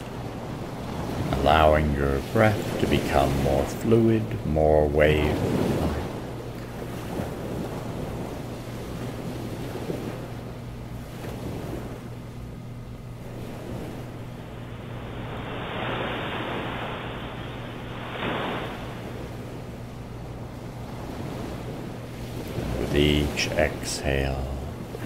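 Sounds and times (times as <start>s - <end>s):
ocean surf washing: 0.0s - 25.0s
steady low hum: 0.0s - 25.0s.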